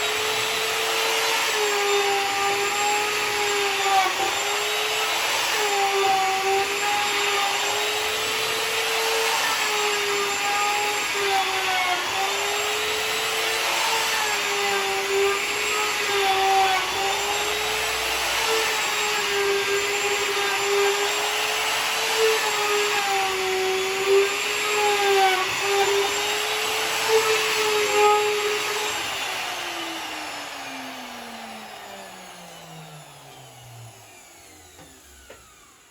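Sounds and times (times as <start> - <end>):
electric router whining: 0.0 - 35.9.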